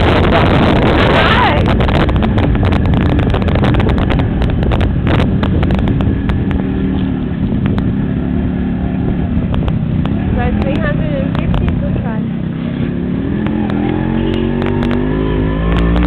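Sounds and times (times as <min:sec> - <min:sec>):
motorcycle engine running: 0:00.0 - 0:16.0
wind rumbling on microphone: 0:00.0 - 0:16.0.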